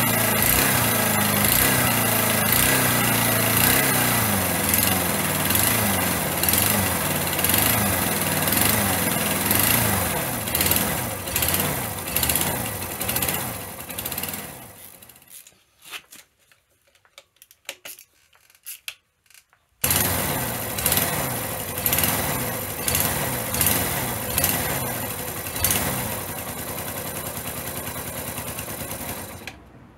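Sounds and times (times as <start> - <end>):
motorcycle engine revving: 0.0 - 15.1, 19.8 - 29.5.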